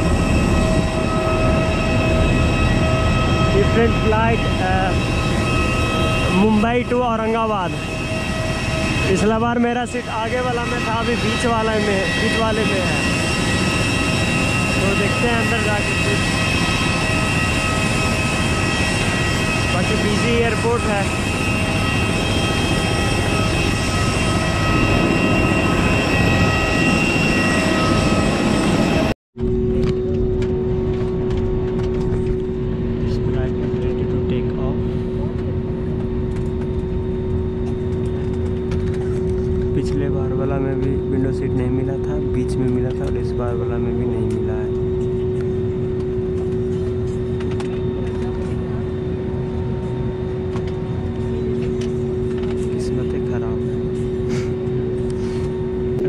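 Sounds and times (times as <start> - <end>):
airliner cabin drone: 0.0 - 56.0
high whining tones: 0.0 - 56.0
jet aircraft rushing noise: 0.0 - 56.0.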